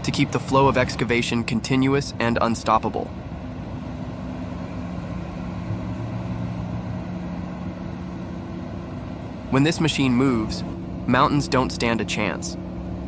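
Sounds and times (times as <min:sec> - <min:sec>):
excavator engine droning: 0:00.0 - 0:13.0.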